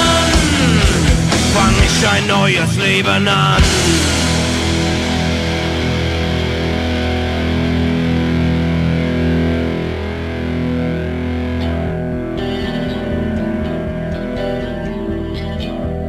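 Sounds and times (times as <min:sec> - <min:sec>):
bass: 0:00.0 - 0:16.0
clean guitar picking notes: 0:00.0 - 0:16.0
distorted electric guitar chord: 0:00.0 - 0:16.0.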